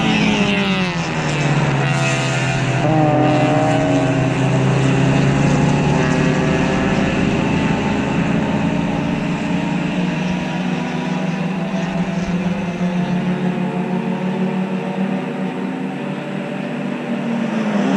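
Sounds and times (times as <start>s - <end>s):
race car engines passing: 0.0s - 17.9s.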